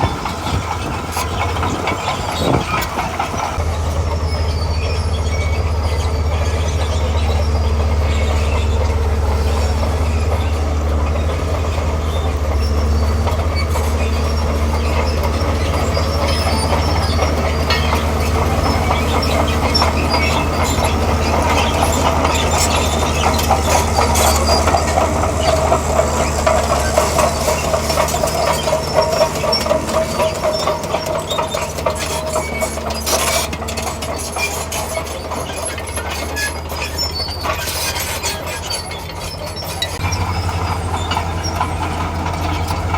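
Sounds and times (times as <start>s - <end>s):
diesel engine droning: 0.0s - 42.9s
steel tracks clanking and squealing: 0.0s - 42.9s.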